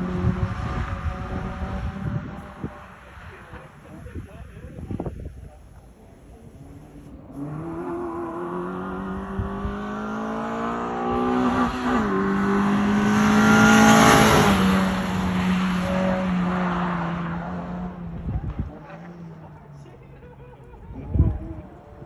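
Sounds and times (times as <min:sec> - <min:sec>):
car engine revving: 0:00.0 - 0:04.2, 0:06.1 - 0:19.7.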